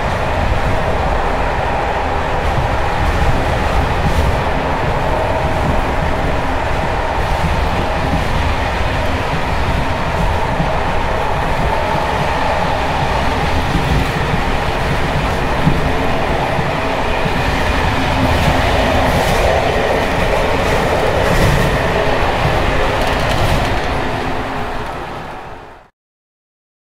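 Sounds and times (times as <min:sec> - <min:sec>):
wheels clickety-clack over rail joints: 0:00.0 - 0:25.8
train coach rumble and rattle: 0:00.0 - 0:25.9.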